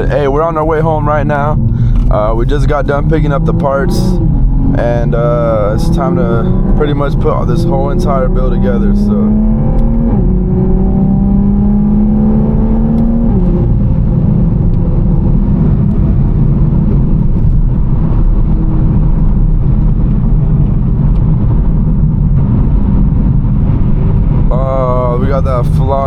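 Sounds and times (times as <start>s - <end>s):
car engine driving: 0.0s - 26.0s
tyre and road rumble: 0.0s - 26.0s.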